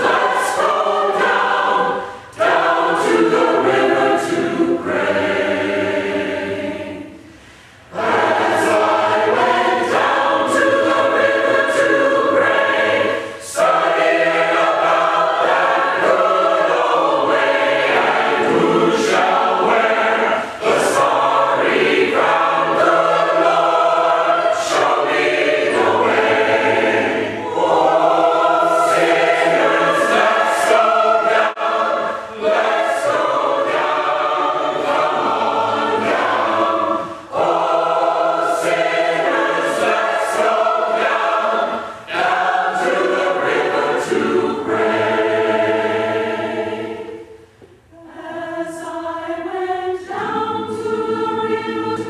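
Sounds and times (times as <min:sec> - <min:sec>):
mixed choir singing in harmony: 0:00.0 - 0:52.0.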